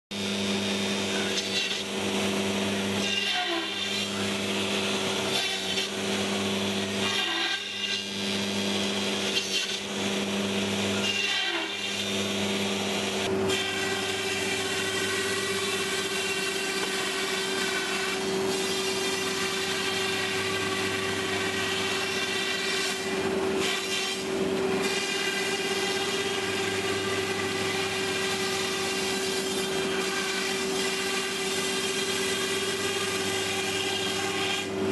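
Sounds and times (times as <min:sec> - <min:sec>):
low machine hum: 0:00.1 - 0:34.9
router spindle whine: 0:00.1 - 0:34.9.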